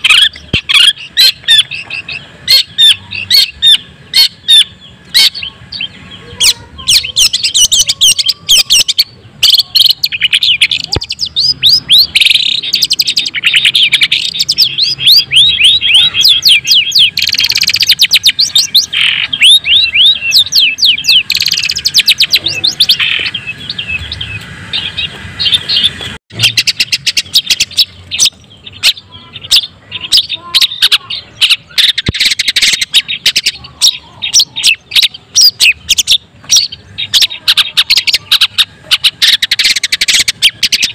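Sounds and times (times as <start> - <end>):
bird singing chattering song: 0.0 - 40.9.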